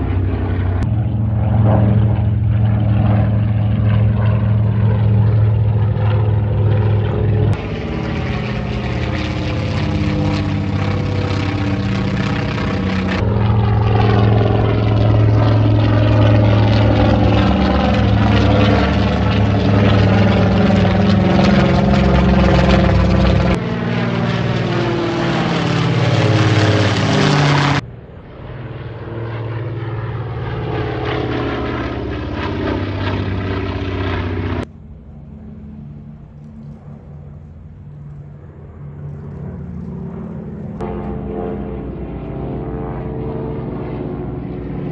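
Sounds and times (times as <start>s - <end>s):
propeller aircraft engine drone: 0.0s - 44.9s.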